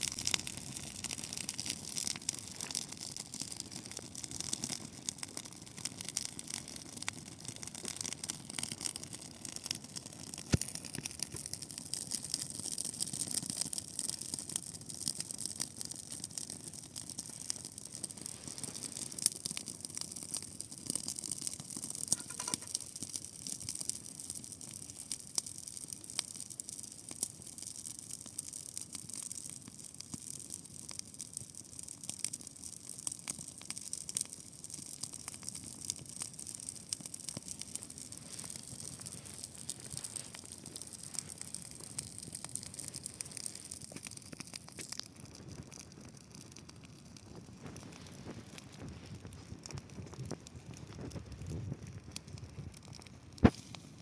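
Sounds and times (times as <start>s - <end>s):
dry grass fire crackling: 0.0s - 54.0s.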